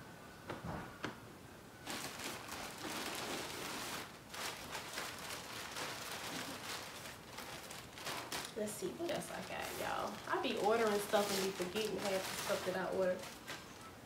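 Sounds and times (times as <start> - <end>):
plastic bag crinkling: 1.8 - 14.0.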